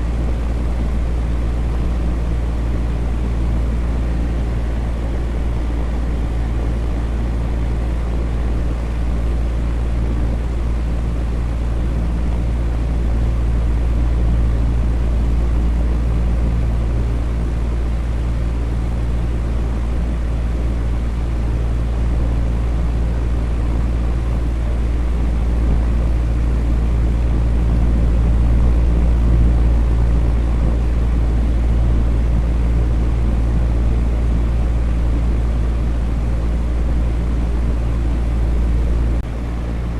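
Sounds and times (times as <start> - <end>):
electric fan whooshing: 0.0 - 39.9.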